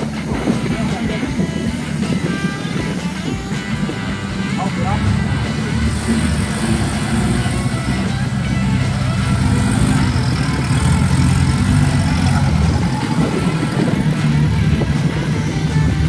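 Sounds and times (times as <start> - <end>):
music playing: 0.0 - 16.0
vehicle engine running: 0.0 - 16.0.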